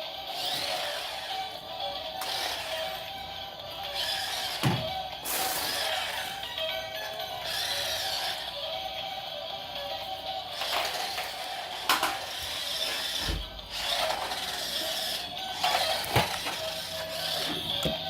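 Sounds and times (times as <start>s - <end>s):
toy car electric whir: 0.0s - 18.0s.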